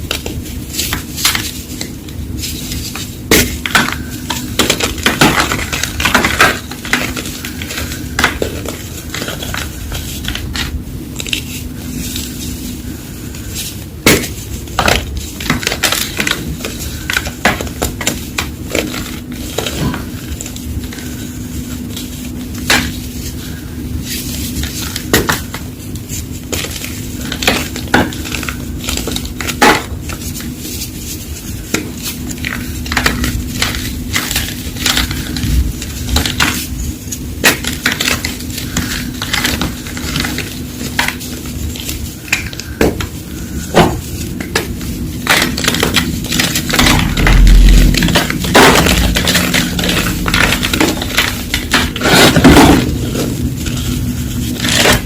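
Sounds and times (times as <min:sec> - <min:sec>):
chalk crunching and crackling: 0:00.0 - 0:55.0.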